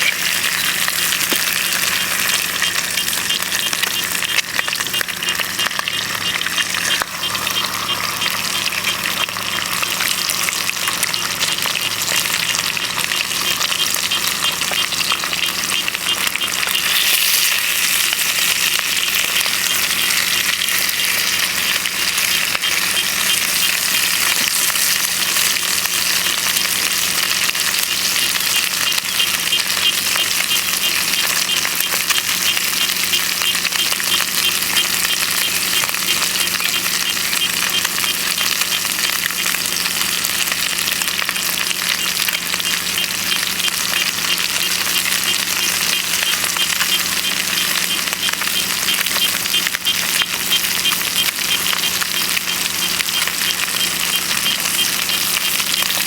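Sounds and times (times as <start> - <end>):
bacon and eggs sizzling in a pan: 0.0 - 56.0.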